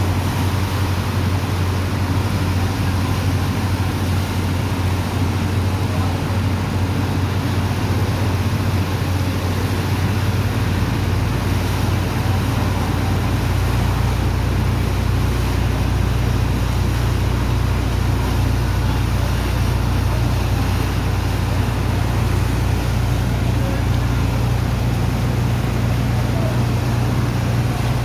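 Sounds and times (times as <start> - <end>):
engine drone: 0.0 - 28.0
water pump rushing: 0.0 - 28.0.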